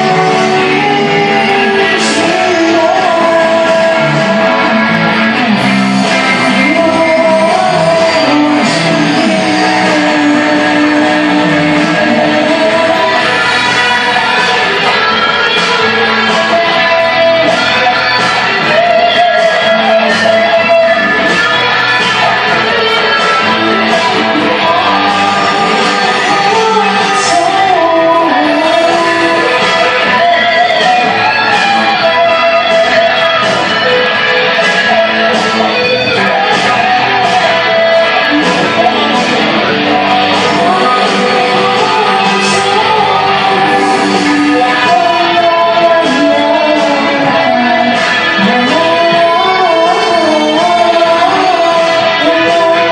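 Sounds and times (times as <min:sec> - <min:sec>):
guitar: 0:00.0 - 0:52.9
live rock band playing: 0:00.0 - 0:52.9.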